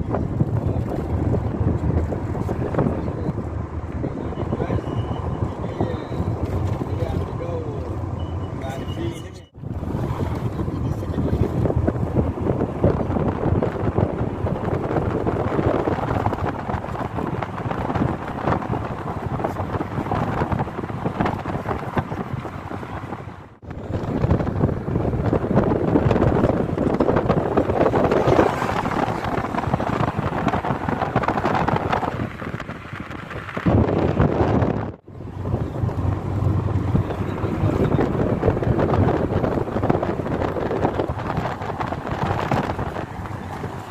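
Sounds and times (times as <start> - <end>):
wind blowing across microphone: 0.0 - 43.9.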